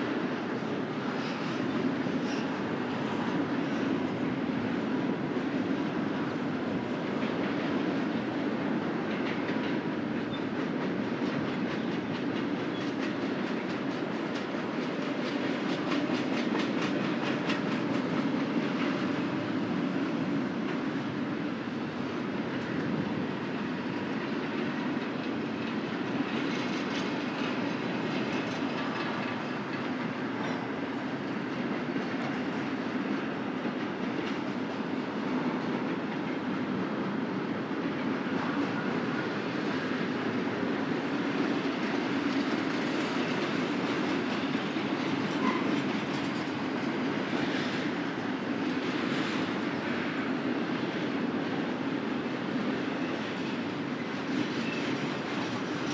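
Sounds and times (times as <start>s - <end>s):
freight train cars rumbling past: 0.0s - 55.9s.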